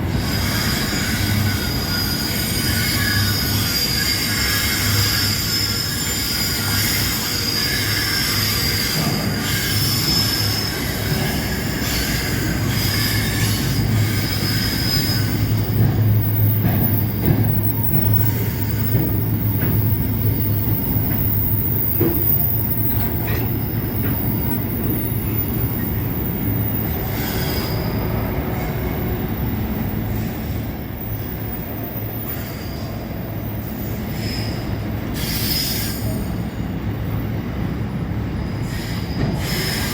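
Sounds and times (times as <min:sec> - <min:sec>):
freight train rumble: 0:00.0 - 0:39.9
train wheels squealing on rails: 0:00.0 - 0:39.9.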